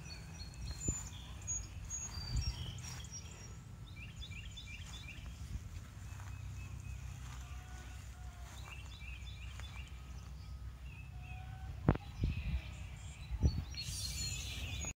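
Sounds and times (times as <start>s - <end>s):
small birds chirping: 0.0s - 14.9s
steady low rumble: 0.0s - 14.9s.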